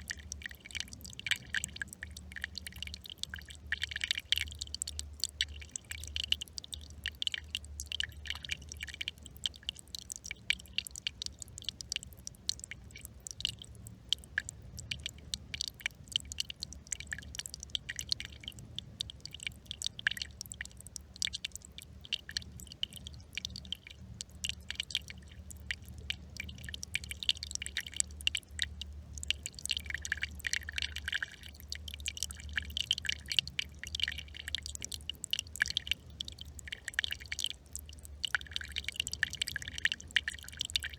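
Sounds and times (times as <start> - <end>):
brook trickling: 0.0 - 40.9.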